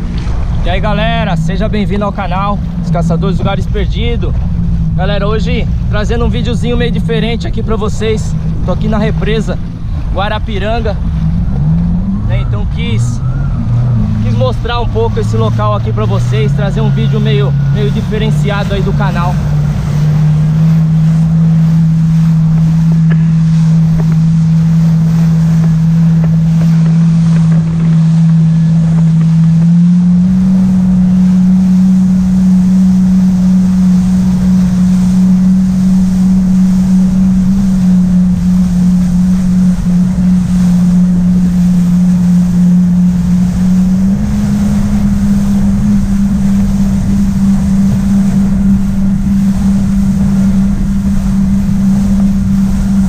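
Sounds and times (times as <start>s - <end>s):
jet ski engine drone: 0.0s - 53.0s.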